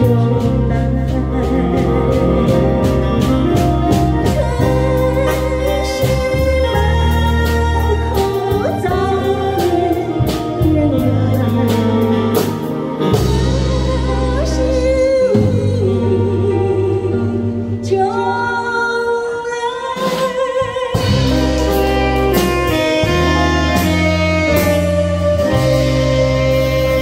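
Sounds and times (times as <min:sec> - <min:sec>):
electric guitar: 0:00.0 - 0:27.0
keyboard: 0:00.0 - 0:27.0
saxophone: 0:00.0 - 0:27.0
woman singing a ballad: 0:00.0 - 0:27.0.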